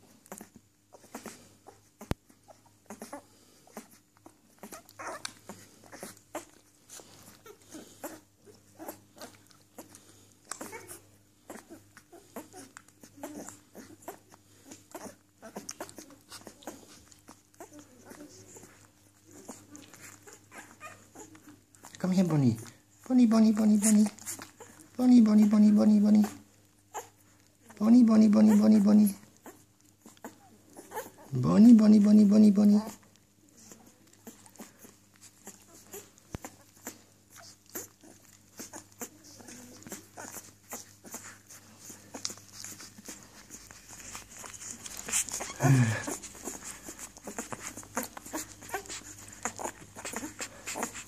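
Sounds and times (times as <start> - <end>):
puppies suckling wet smacks: 0.1 - 31.8, 32.7 - 51.0
puppies squeaking: 0.3 - 22.8, 23.4 - 31.6, 32.7 - 51.0.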